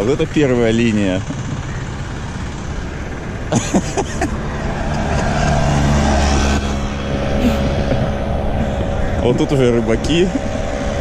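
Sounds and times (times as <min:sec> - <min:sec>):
small engine passing: 0:00.0 - 0:11.0
traffic noise: 0:00.0 - 0:11.0.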